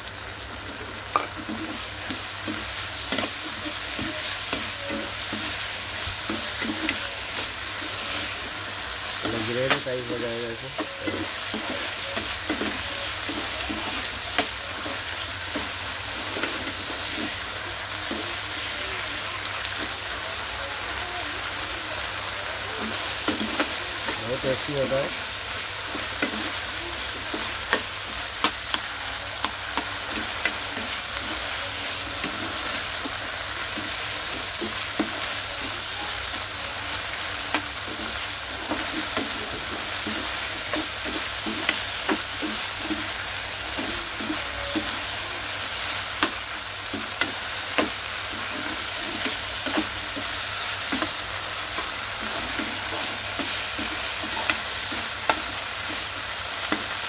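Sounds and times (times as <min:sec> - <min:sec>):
chicken sizzling in a pan: 0:00.0 - 0:57.0.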